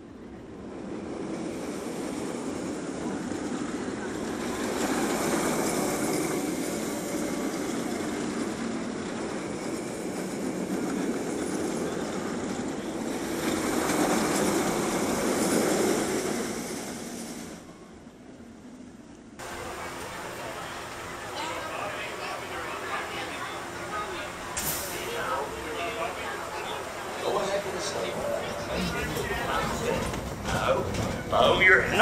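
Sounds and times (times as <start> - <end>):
roller coaster train rumbling: 0.0 - 32.0.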